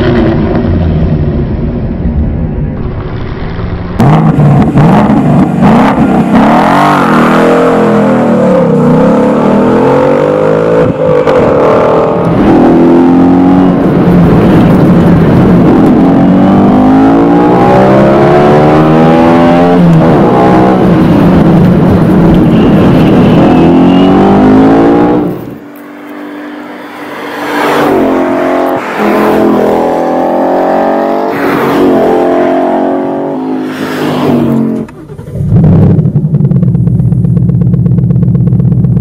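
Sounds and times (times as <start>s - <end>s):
car engine revving hard: 4.0s - 25.6s, 26.5s - 36.2s.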